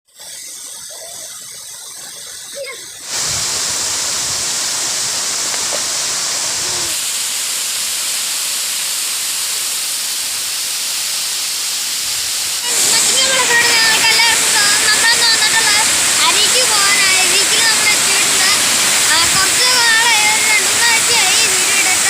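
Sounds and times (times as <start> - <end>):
waterfall rushing: 0.5 - 22.0.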